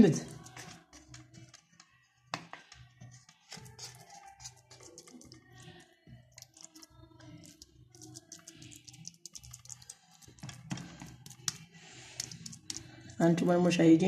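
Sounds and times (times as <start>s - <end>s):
wooden spoon scraping and tapping: 0.0s - 13.3s
faint background music: 0.0s - 14.0s.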